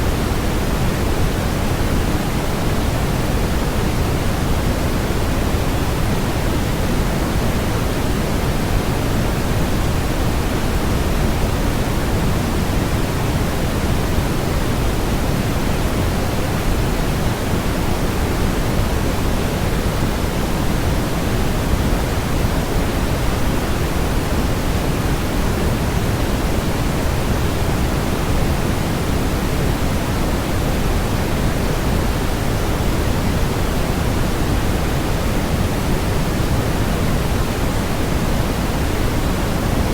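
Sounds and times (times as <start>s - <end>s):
steady rushing noise hiss: 0.0s - 39.9s.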